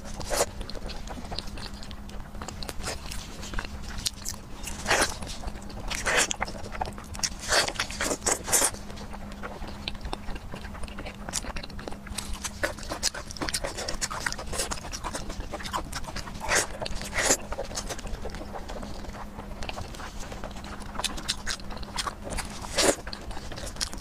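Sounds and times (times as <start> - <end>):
biting and chewing meat: 0.0 - 24.0.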